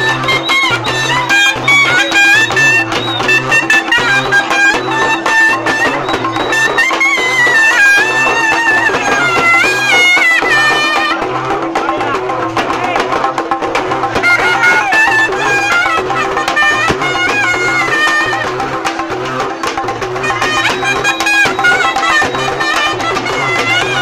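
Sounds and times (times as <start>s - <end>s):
drums: 0.0s - 24.0s
reed wind instrument melody: 0.0s - 24.0s.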